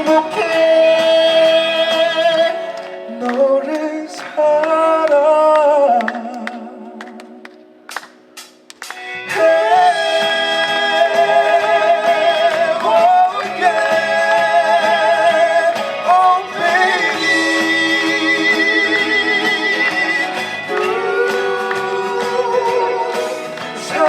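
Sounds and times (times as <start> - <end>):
backing track: 0.0 - 24.0.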